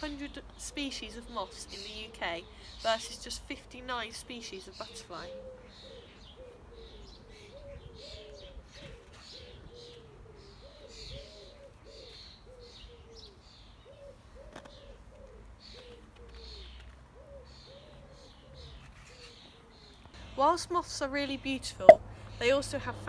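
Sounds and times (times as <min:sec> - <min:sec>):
birds cooing: 0:00.0 - 0:03.4, 0:04.4 - 0:20.2
birds chirping: 0:00.0 - 0:23.0.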